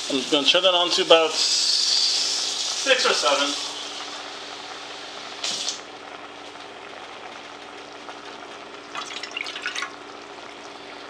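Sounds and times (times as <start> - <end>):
water heating hiss: 0.0 - 11.0.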